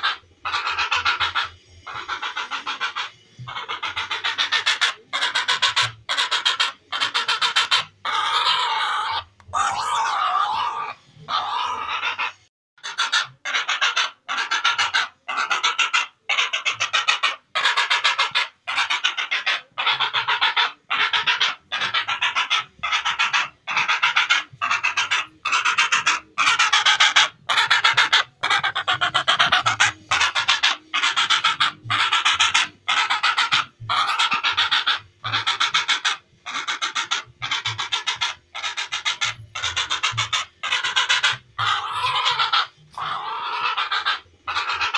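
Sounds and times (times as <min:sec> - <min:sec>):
heron squawking: 0:00.0 - 0:44.9.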